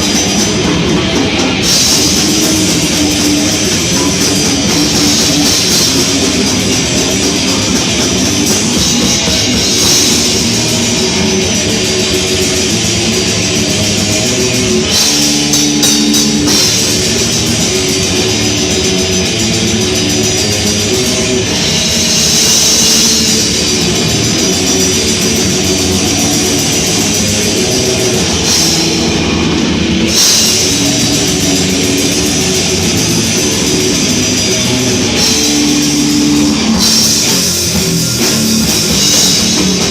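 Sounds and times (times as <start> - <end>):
cymbals: 0.0 - 39.9
heavy metal band playing live: 0.0 - 39.9.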